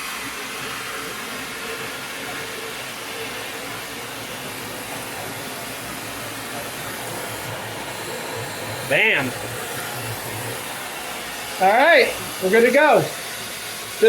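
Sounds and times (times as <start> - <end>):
water rushing from tap: 0.0 - 14.0.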